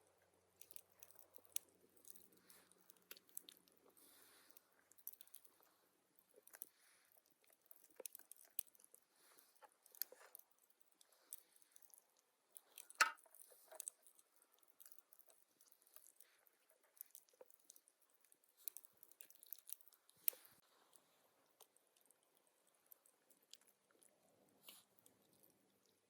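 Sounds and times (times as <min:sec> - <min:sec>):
soft chewing and crunching: 0:00.0 - 0:26.0.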